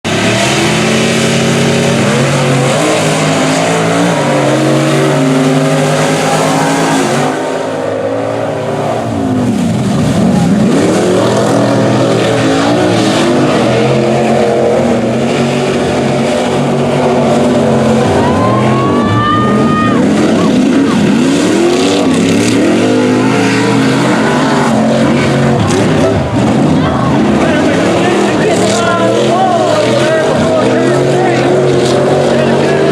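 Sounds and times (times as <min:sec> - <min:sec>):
truck engines revving hard: 0:00.0 - 0:32.9.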